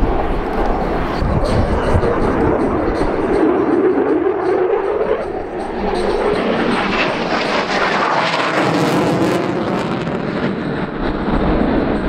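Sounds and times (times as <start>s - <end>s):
military jet flying past low: 0.0s - 12.0s.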